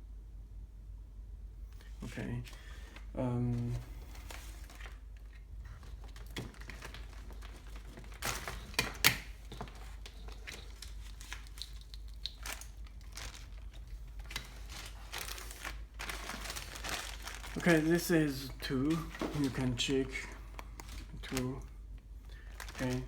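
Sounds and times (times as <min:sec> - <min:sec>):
packaging crinkling: 0:02.6 - 0:23.0.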